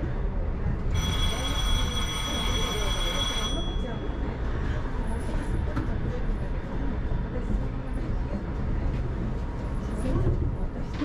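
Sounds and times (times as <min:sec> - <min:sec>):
monorail car rumble and hum: 0:00.0 - 0:11.0.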